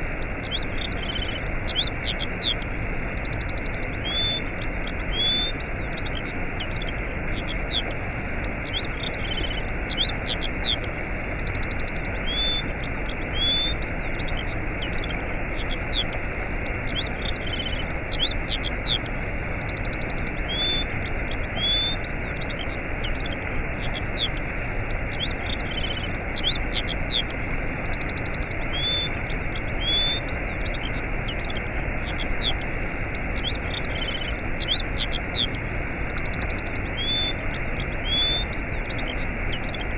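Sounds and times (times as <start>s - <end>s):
small birds chirping: 0.0s - 39.9s
waterfall rushing: 0.2s - 39.9s.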